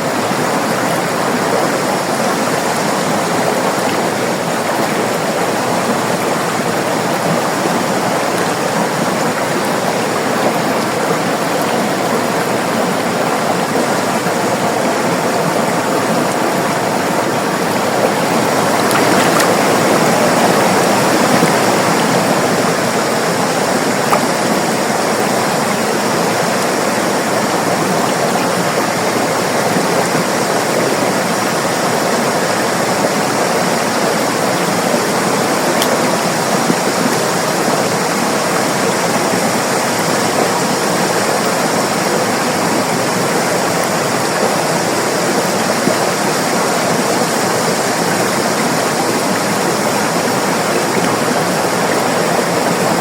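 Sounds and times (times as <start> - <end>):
river water over rocks: 0.0 - 53.0.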